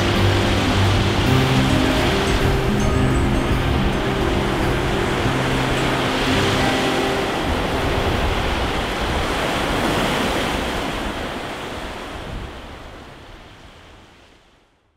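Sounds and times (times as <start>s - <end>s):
sea surf washing on beach: 0.0s - 14.6s.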